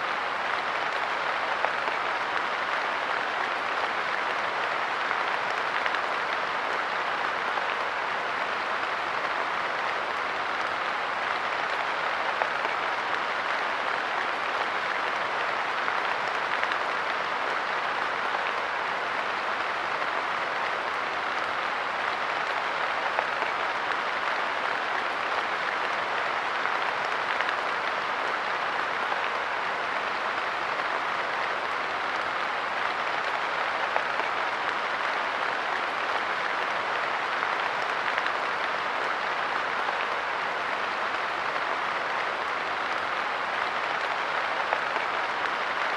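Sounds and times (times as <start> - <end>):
light rain on a bench: 0.0 - 45.9.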